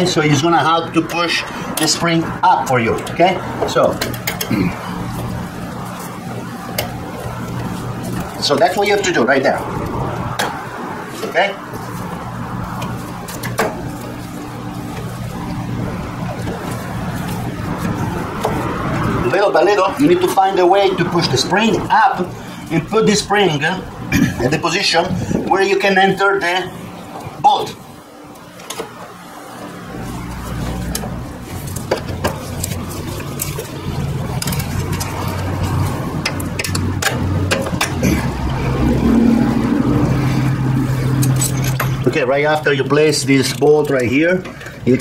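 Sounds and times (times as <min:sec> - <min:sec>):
low engine-like hum: 0:00.0 - 0:45.0.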